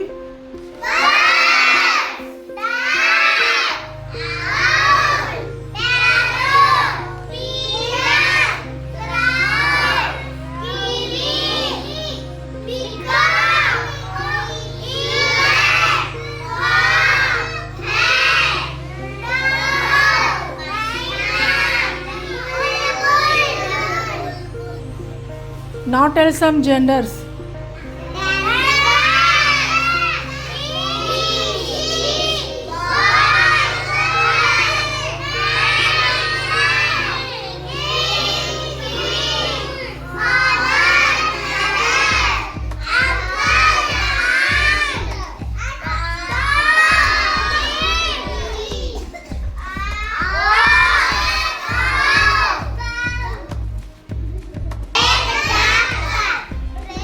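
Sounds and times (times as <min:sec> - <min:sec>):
children chanting in unison: 0:00.7 - 0:25.2, 0:27.6 - 0:53.8, 0:54.9 - 0:57.0
background music with bass line: 0:03.9 - 0:57.0.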